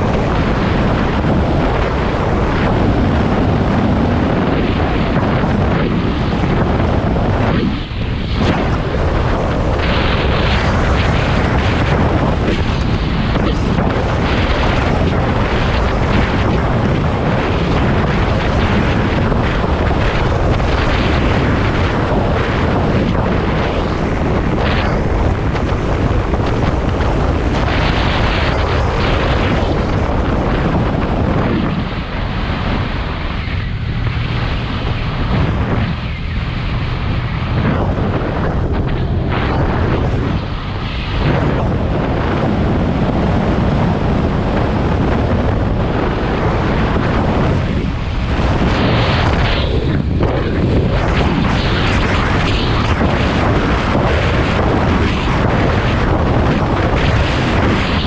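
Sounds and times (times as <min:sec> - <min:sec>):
road noise: 0:00.0 - 0:58.0
wind buffeting microphone: 0:00.0 - 0:58.0.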